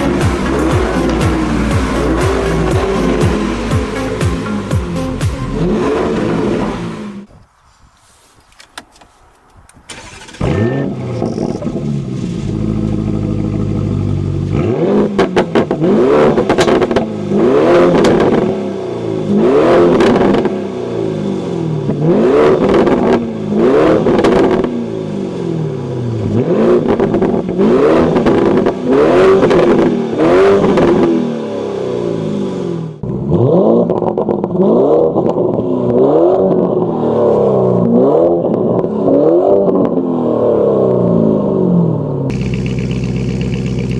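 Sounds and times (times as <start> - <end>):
car engine revving: 0.0 - 7.3, 9.9 - 43.9
exhaust crackles: 0.0 - 7.4, 9.0 - 43.9.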